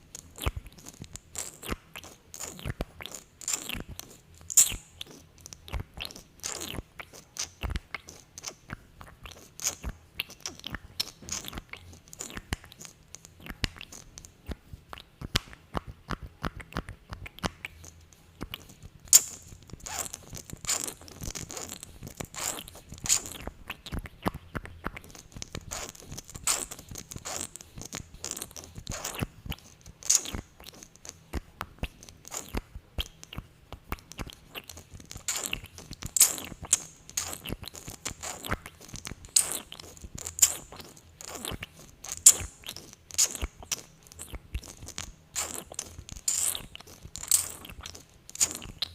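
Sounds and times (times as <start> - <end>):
wet lip and mouth clicks: 0.0 - 48.9.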